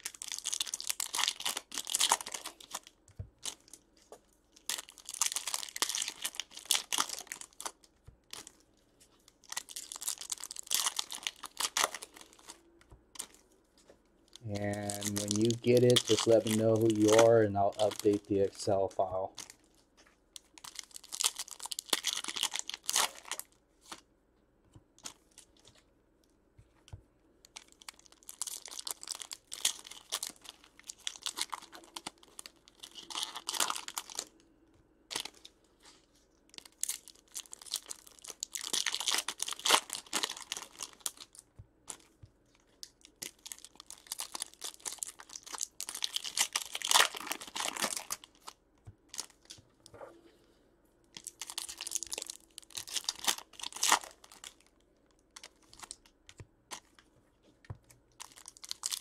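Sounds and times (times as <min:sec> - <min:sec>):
plastic wrapping tearing and crumpling: 0:00.0 - 0:13.5, 0:14.3 - 0:24.0, 0:27.4 - 0:34.4, 0:35.1 - 0:49.6, 0:51.1 - 0:56.1, 0:56.7 - 0:57.1, 0:58.1 - 0:59.0.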